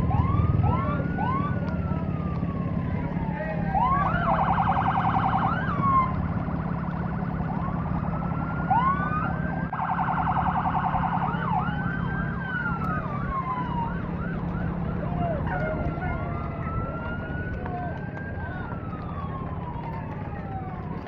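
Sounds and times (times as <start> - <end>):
emergency vehicle sirens: 0.0 - 21.0.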